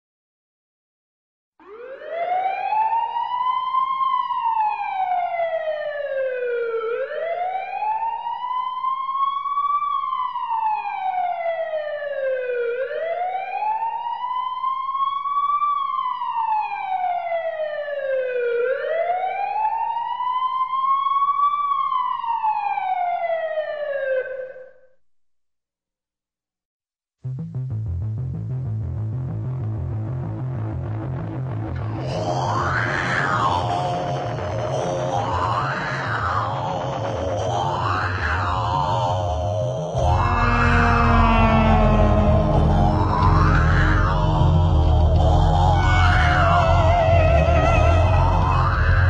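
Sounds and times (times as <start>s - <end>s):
emergency siren wailing: 1.6s - 24.7s, 31.7s - 49.0s.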